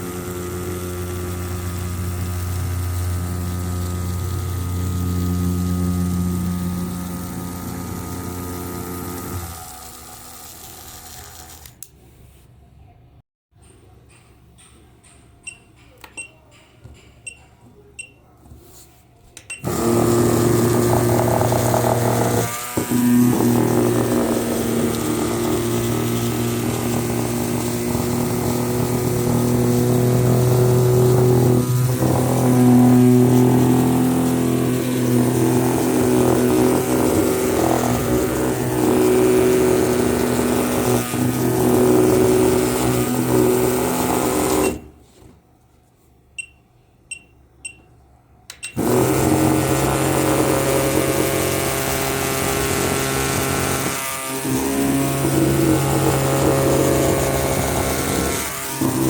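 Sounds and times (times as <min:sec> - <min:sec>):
toy motor buzzing whir: 0:00.0 - 0:11.8, 0:19.6 - 0:44.9, 0:48.8 - 0:59.0.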